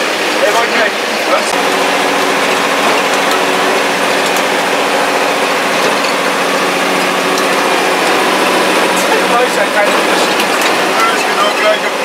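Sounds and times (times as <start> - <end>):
road noise: 0.0 - 12.0
truck engine droning: 0.0 - 12.0.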